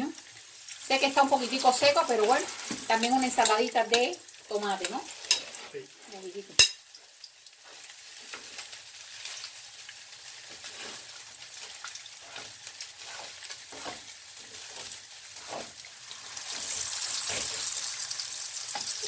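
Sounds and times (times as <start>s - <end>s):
fritters sizzling in oil: 0.0s - 19.0s
oil crackles and pops: 0.2s - 5.4s, 6.0s - 19.0s.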